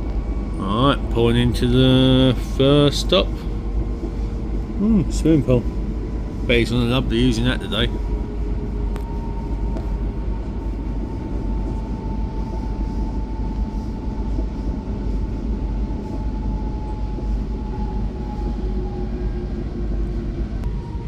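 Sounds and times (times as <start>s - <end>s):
thin steady whine: 0.0s - 21.0s
train rumbling from inside carriage: 0.0s - 21.0s.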